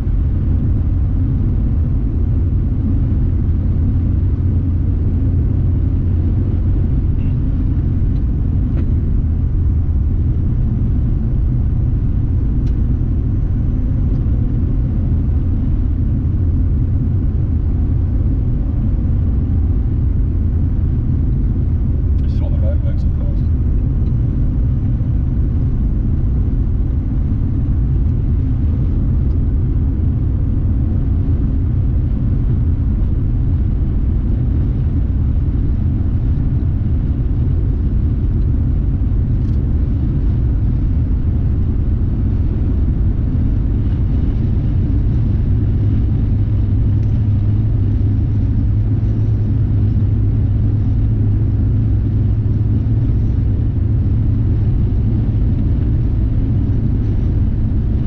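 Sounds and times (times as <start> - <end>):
low hum: 0.0 - 58.0
road and engine rumble in car: 0.0 - 58.0.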